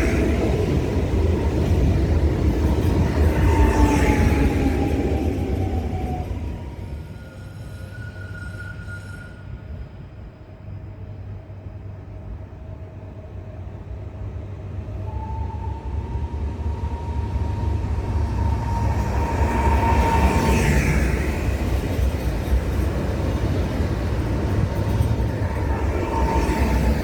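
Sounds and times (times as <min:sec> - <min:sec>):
electric train whine: 0:00.0 - 0:27.0
train rumble: 0:00.0 - 0:27.0.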